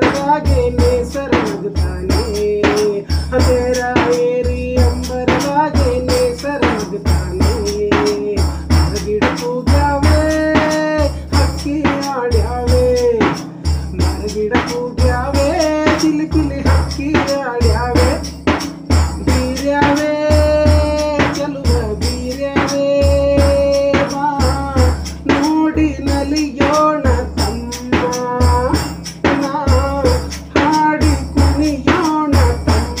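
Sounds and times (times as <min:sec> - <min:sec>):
held melody line: 0:00.0 - 0:33.0
steady drum beat: 0:00.0 - 0:33.0.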